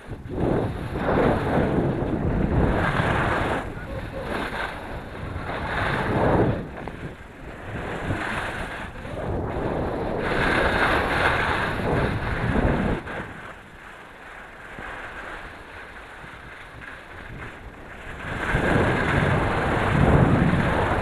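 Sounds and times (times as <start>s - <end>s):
skis scraping on snow: 0.0s - 21.0s
wind rushing over microphone: 0.0s - 21.0s.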